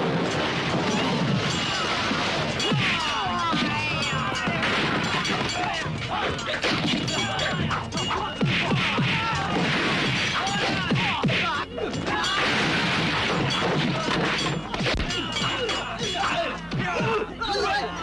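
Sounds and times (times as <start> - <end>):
crashes and shattering: 0.0 - 11.5, 12.1 - 15.3
action film music: 0.0 - 18.0.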